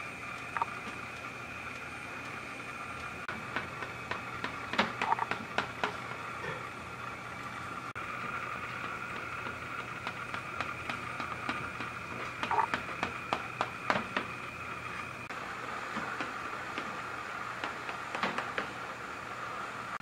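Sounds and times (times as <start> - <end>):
background hum: 0.0 - 20.0.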